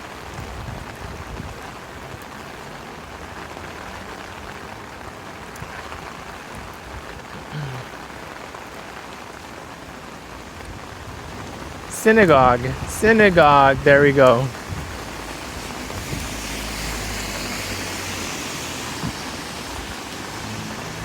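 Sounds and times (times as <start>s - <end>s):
rain falling on street: 0.0s - 21.0s.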